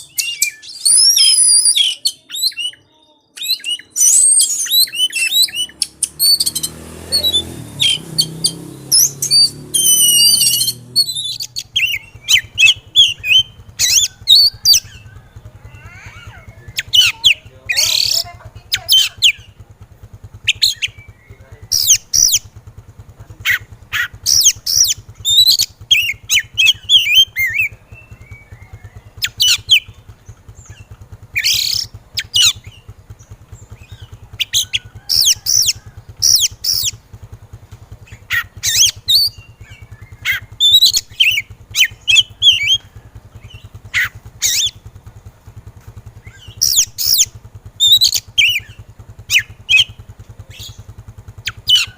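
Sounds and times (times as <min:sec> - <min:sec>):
bird harsh rasping song: 0:00.0 - 0:51.9.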